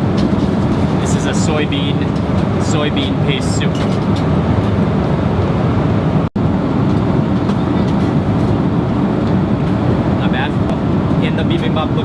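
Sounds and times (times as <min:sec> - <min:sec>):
airliner cabin engine roar: 0:00.0 - 0:12.0.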